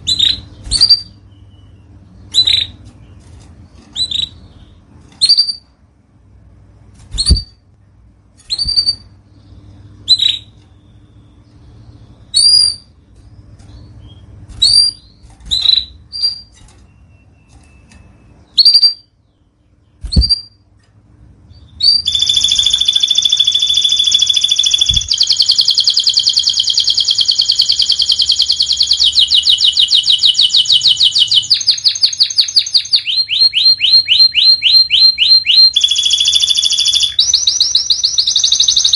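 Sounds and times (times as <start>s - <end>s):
canary chirping and singing: 0.0s - 5.8s, 7.0s - 7.6s, 8.4s - 38.9s.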